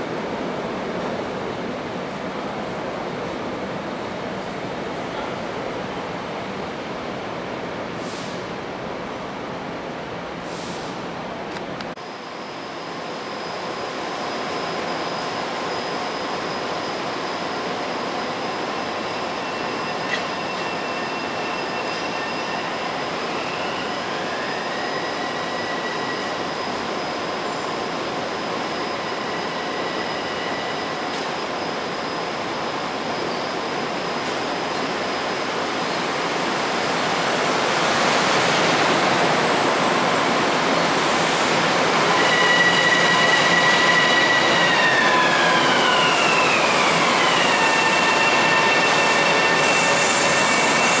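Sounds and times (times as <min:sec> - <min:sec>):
train rumble and hiss: 0:00.0 - 0:51.0.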